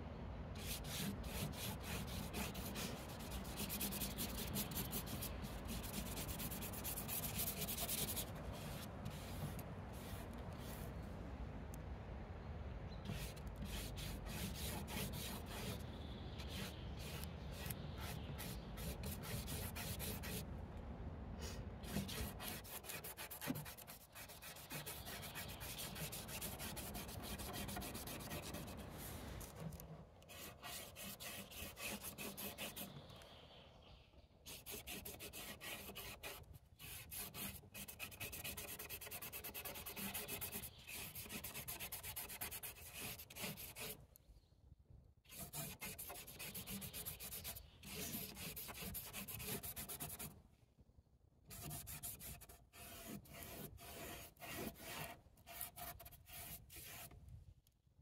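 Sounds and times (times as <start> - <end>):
paintbrush scrubbing on paper: 0.6 - 10.8, 13.1 - 20.4, 21.8 - 29.7, 30.3 - 33.1, 34.5 - 44.0, 45.3 - 50.3, 51.5 - 57.1.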